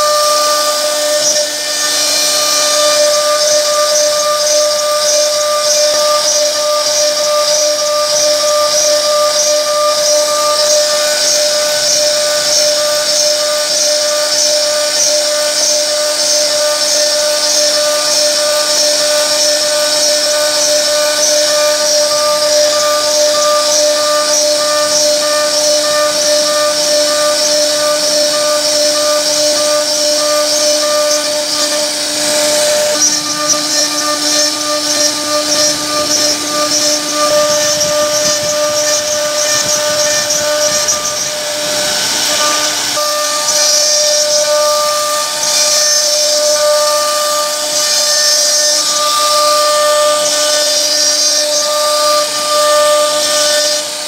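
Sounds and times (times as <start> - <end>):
hiss of wood cutting: 0.0 - 54.0
router spindle high whine: 0.0 - 54.0.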